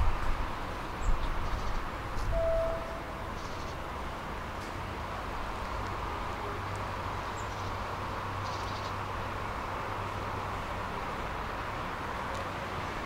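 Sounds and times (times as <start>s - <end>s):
tram running: 0.0s - 13.0s.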